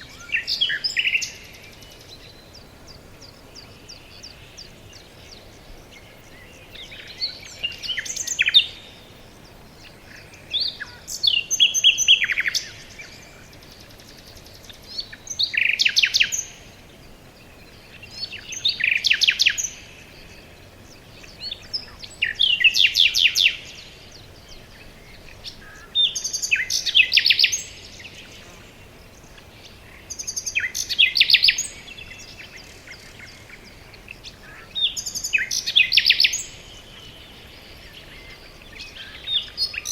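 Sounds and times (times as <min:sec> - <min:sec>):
faint background hiss: 0:00.0 - 0:39.9
songbird trilling: 0:00.0 - 0:39.9.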